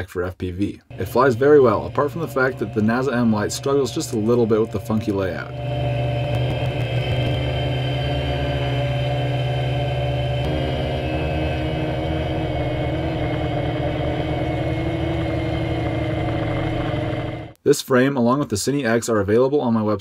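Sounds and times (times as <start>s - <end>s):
quadcopter motors droning: 0.9s - 17.6s.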